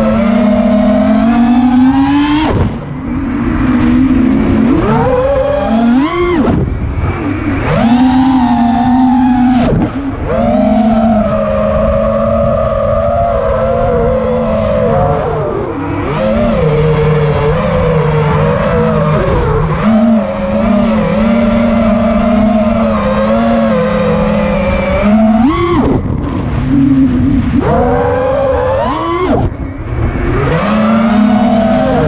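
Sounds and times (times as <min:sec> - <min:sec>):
quadcopter motors buzzing: 0:00.0 - 0:32.0.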